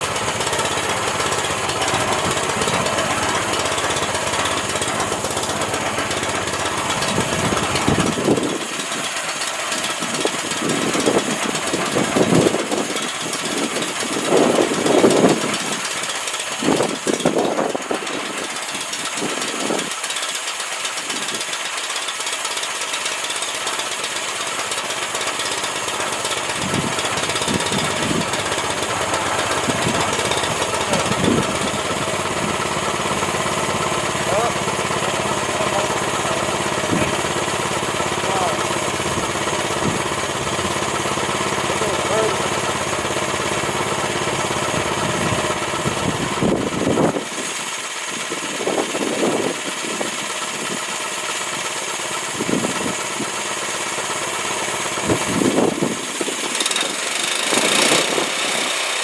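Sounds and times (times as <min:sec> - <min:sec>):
sawmill engine drone: 0:00.0 - 0:59.0.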